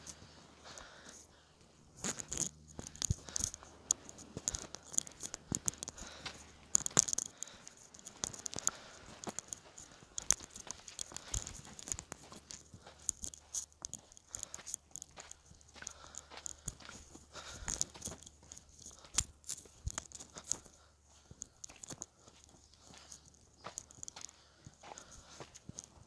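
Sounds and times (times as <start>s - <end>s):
footsteps crunching on sand and rock: 0.0s - 26.0s.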